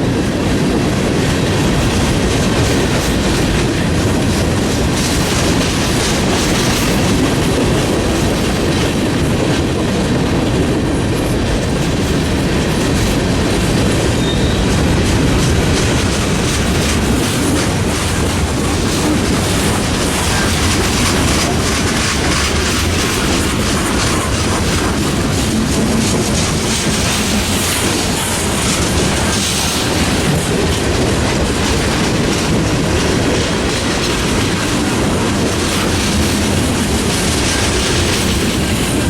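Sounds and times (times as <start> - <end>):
freight train rolling past: 0.0 - 39.0
wheels clicking over rail joints: 0.2 - 39.0.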